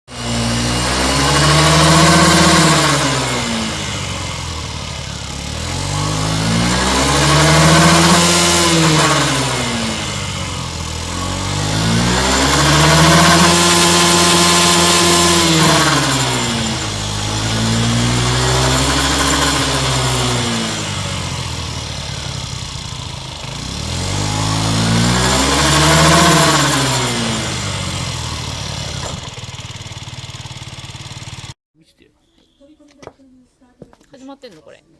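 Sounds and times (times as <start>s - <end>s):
scooter engine revving: 0.1s - 31.6s.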